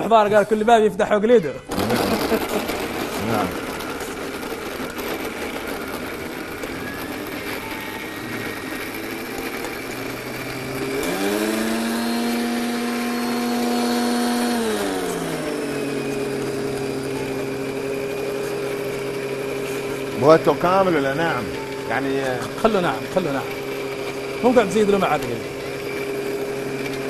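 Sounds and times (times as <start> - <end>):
blender motor running: 1.7 - 27.0.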